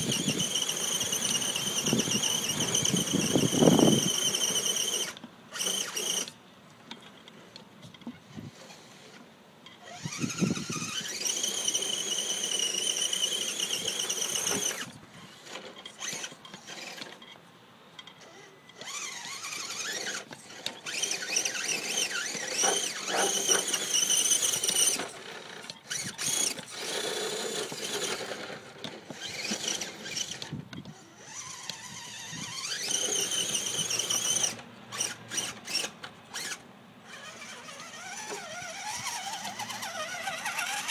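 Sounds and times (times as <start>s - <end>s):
electric motor drivetrain whine: 0.0s - 6.4s, 8.4s - 17.4s, 18.0s - 40.9s.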